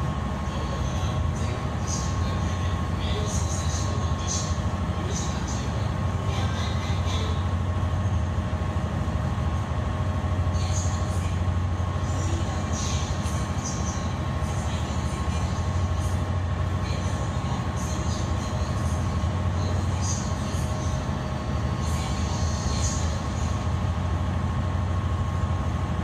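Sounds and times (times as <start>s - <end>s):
faint steady whine: 0.0s - 26.0s
ship engines droning: 0.0s - 26.0s.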